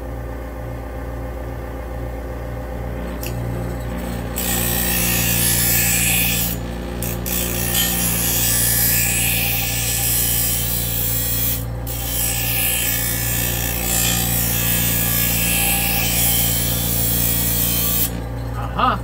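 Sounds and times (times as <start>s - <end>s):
grinder motor humming: 2.9s - 19.0s.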